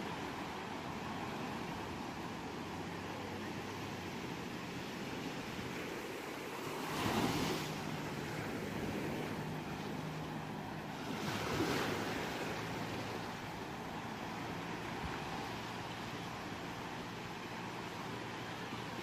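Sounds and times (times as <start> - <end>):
ocean waves washing onto shore: 0.0 - 19.0.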